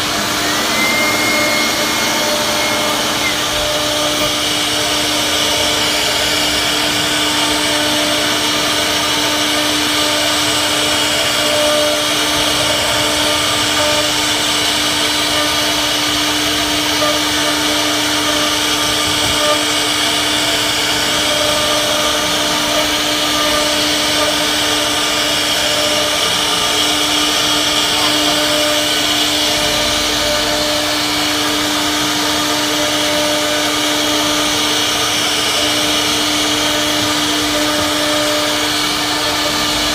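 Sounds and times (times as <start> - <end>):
wood router whining: 0.0 - 39.9.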